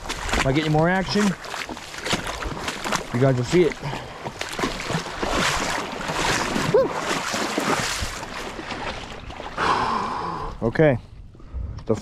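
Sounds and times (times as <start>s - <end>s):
flowing river: 0.0s - 10.6s.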